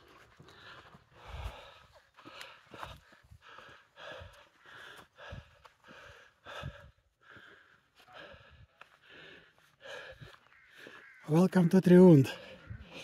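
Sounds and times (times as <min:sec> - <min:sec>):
person breathing hard: 0:00.0 - 0:11.0.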